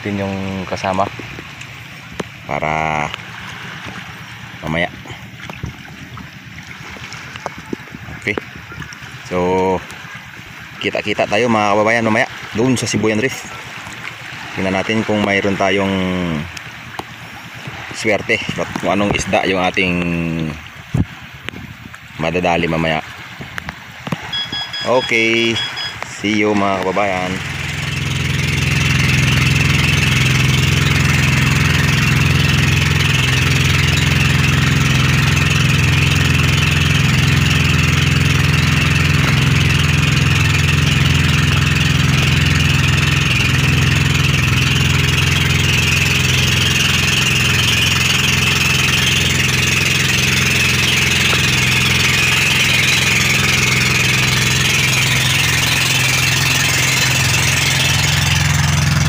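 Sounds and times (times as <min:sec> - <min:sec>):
boat engine running: 0:00.0 - 0:59.0
water rushing along hull: 0:00.0 - 0:59.0.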